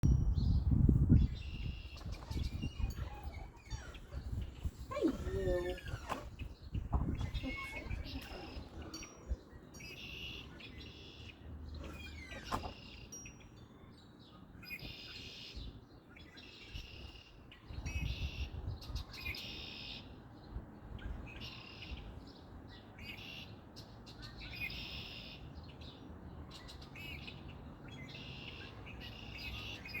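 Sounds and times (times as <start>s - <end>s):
birds chirping: 0.1s - 30.0s.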